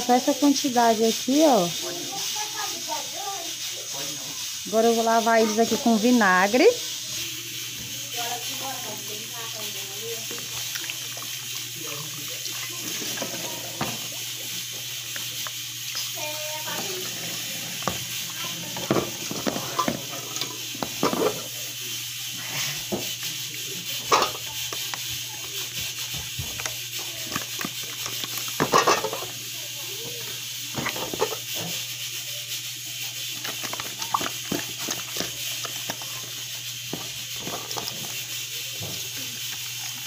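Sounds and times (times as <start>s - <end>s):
steady hiss: 0.1s - 40.0s.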